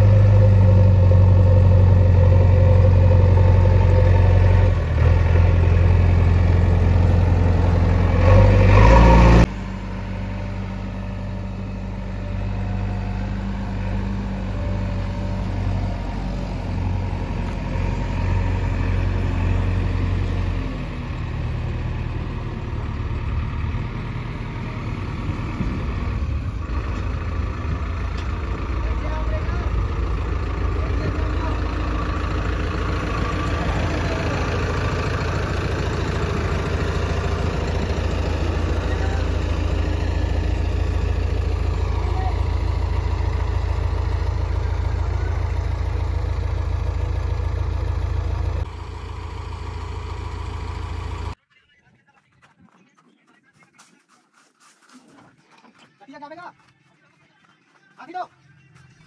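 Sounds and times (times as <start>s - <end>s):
diesel engine running: 0.0s - 51.4s.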